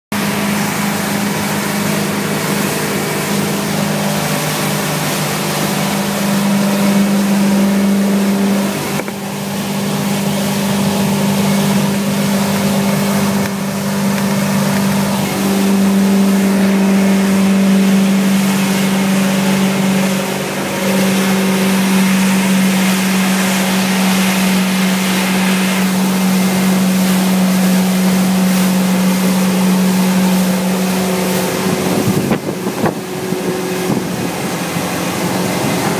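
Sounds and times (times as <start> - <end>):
boat engine droning: 0.1 - 35.9.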